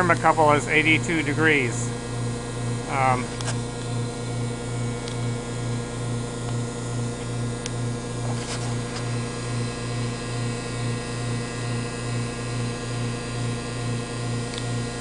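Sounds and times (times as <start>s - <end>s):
pumps and heaters humming: 0.0s - 15.0s.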